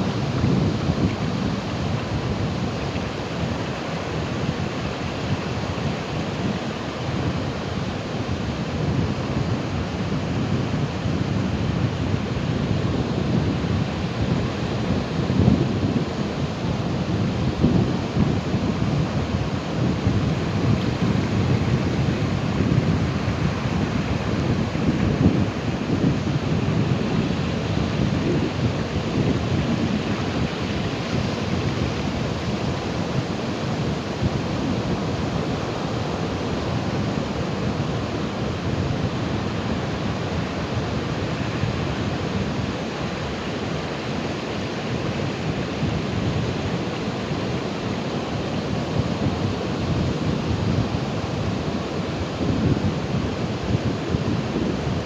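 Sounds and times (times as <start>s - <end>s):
ocean waves: 0.0s - 55.0s.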